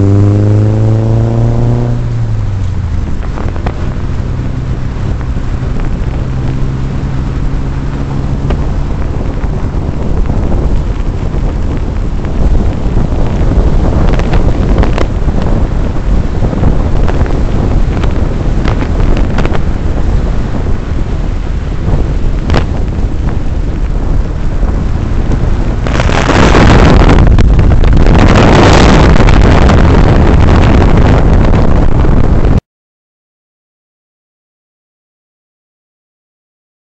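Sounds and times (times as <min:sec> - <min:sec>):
car exhaust rumble: 0:00.0 - 0:32.6
wind buffeting microphone: 0:00.0 - 0:32.6.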